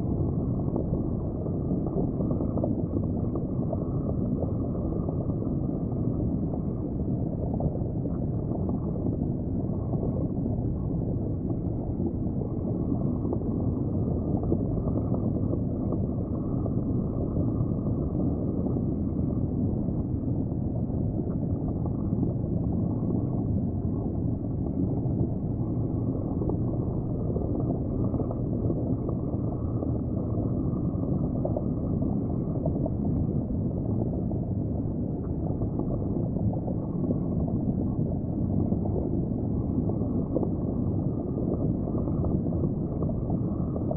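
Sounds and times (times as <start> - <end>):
muffled underwater rumble and gurgle: 0.0 - 43.9.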